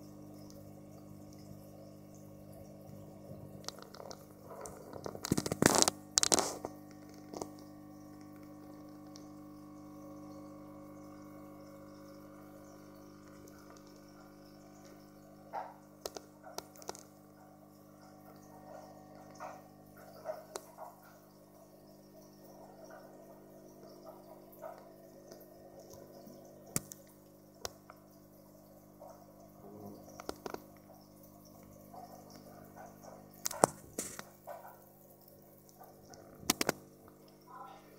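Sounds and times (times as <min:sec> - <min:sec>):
aquarium filter humming: 0:00.0 - 0:37.9
water trickling and dripping: 0:00.0 - 0:37.9.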